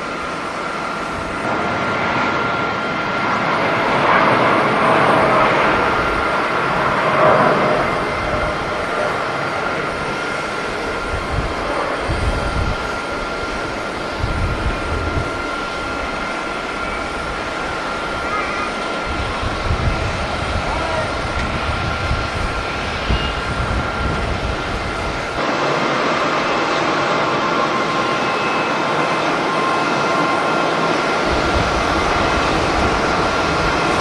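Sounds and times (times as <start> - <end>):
wind buffeting microphone: 0.0 - 25.7, 28.9 - 34.0
jet engines whining: 0.0 - 34.0.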